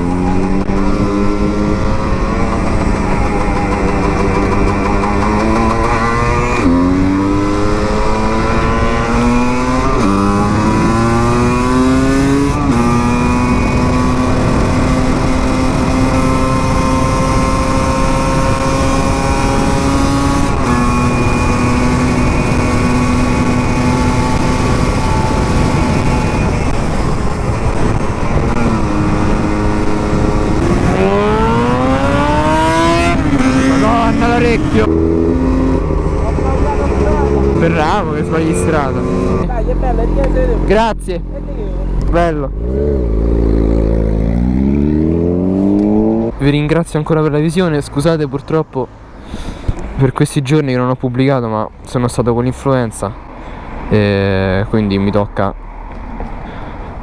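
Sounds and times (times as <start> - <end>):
motorcycle engine accelerating: 0.0 - 47.8.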